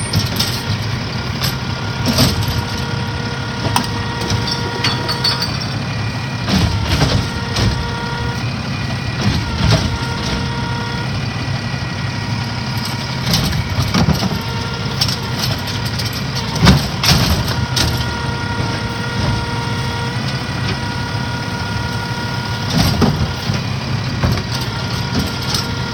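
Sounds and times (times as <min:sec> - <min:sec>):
truck engine rumble: 0:00.0 - 0:25.9.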